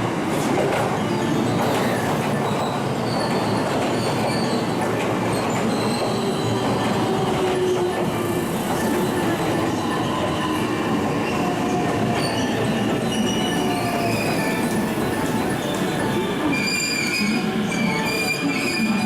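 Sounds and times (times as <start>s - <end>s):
train wheels rumbling on rails: 0.0s - 19.0s
high wheel squeal: 1.1s - 19.0s.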